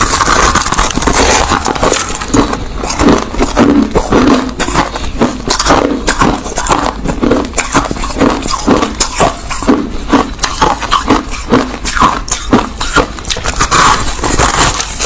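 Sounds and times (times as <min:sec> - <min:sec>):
ice crunching between teeth: 0:00.0 - 0:15.0.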